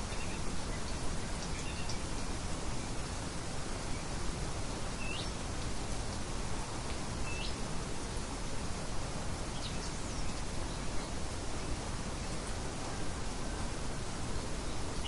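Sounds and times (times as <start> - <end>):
rushing outdoor hiss: 0.0 - 15.0.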